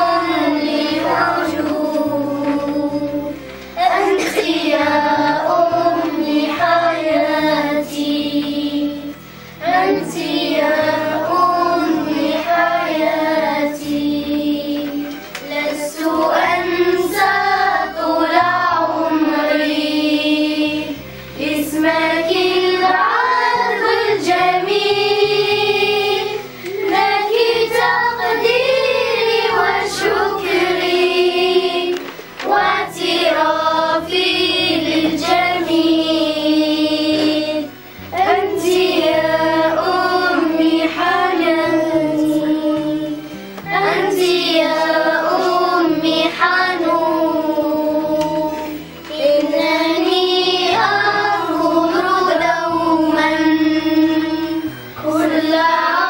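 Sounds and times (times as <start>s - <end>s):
children singing in unison: 0.0s - 56.0s.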